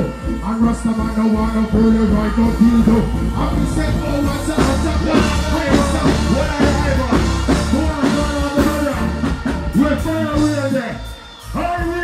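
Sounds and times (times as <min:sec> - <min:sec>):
heavy bass line: 0:00.0 - 0:12.0
live reggae band: 0:00.0 - 0:12.0
man singing into a microphone: 0:00.0 - 0:12.0.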